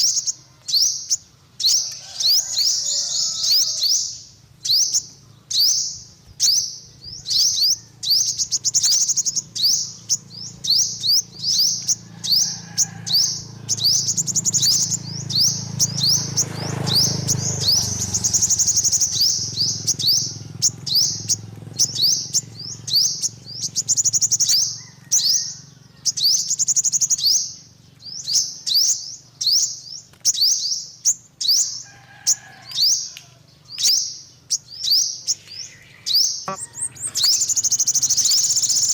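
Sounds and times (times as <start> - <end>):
bird singing high chirps and trills: 0.0 - 38.9.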